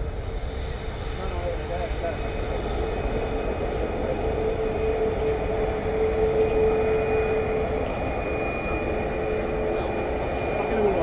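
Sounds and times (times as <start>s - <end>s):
jet engines running: 0.0s - 11.0s
whining tone: 2.2s - 11.0s.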